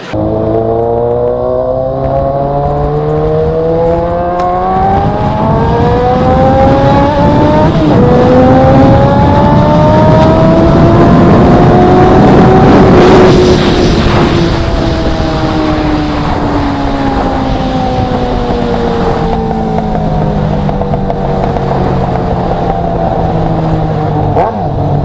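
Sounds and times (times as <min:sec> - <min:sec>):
motorcycle engine accelerating: 0:00.0 - 0:25.0
wind rush on microphone: 0:00.0 - 0:25.0.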